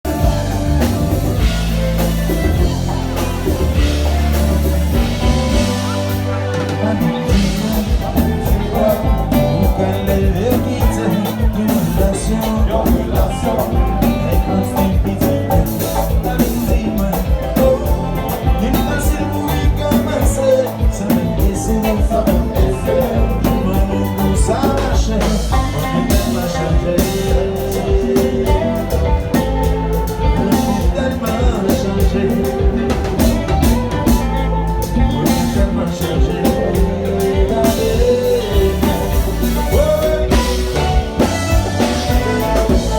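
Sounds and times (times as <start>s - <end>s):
bass: 0.0s - 42.9s
drum kit: 0.0s - 42.9s
guitar: 0.0s - 42.9s
person singing: 0.0s - 42.9s.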